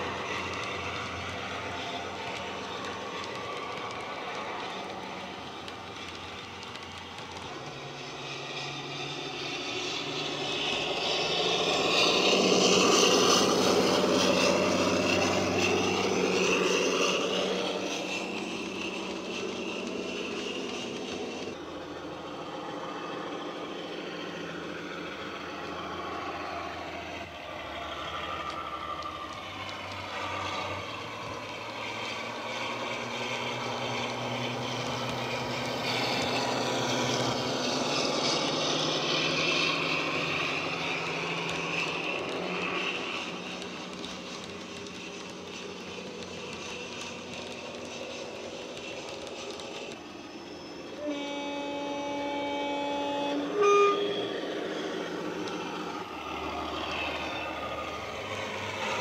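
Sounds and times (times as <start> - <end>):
model diesel locomotive engine sound: 0.0 - 59.0.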